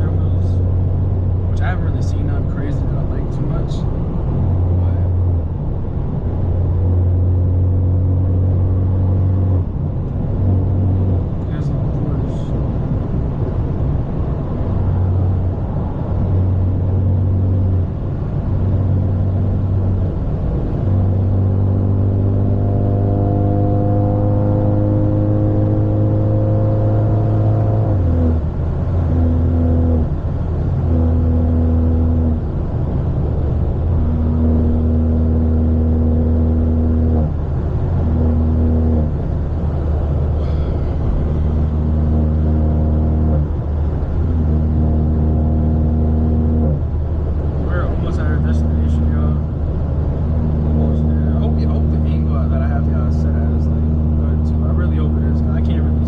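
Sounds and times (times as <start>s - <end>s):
car engine droning loudly: 0.0s - 56.0s.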